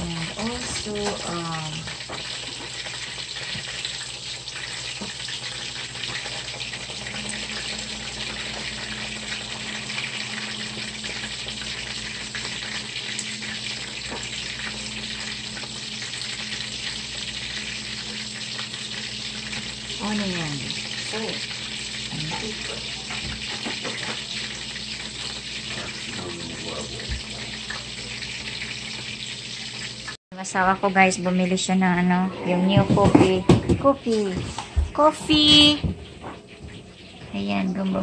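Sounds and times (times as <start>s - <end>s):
patties sizzling in oil: 0.0s - 31.8s, 33.3s - 38.0s.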